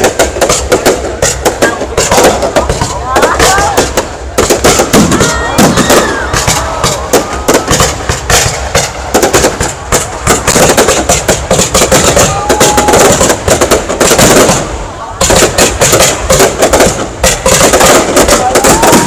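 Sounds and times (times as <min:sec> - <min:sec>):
crowd voices: 0:00.0 - 0:19.0
fireworks bangs and crackles: 0:00.0 - 0:19.0.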